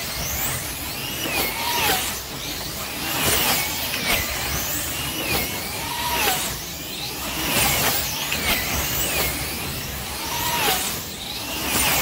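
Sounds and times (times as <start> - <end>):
cars rushing on track: 0.0 - 12.0
slot car motors whining: 0.0 - 12.0.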